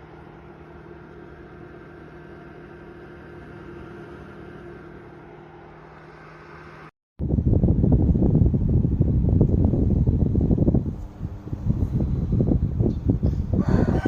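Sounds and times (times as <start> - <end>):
dehumidifier fan and motor hum: 0.0 - 14.0.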